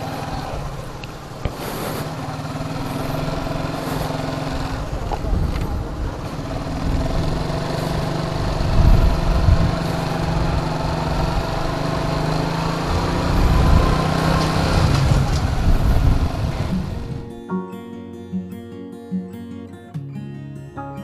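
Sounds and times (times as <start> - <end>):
motorcycle engine running: 0.0 - 17.4
wind rumbling on microphone: 0.0 - 17.4.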